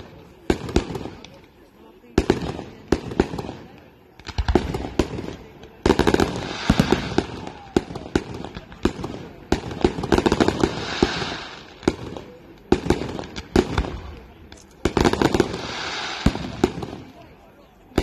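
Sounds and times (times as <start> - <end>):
fireworks banging and crackling: 0.0 - 18.0
fireworks hiss: 2.2 - 17.4.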